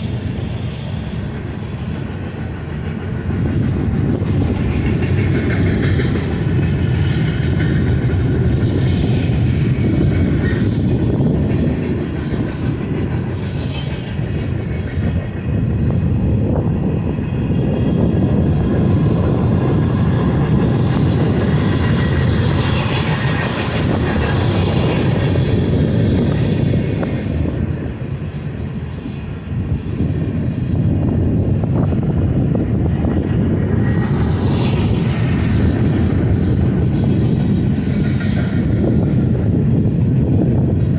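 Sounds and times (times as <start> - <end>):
freight train rumbling and rattling: 0.0 - 40.9.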